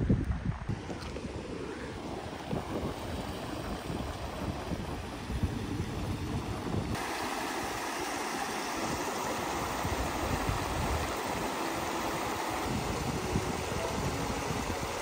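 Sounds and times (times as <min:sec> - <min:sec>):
stream rushing over rocks: 0:00.8 - 0:15.0.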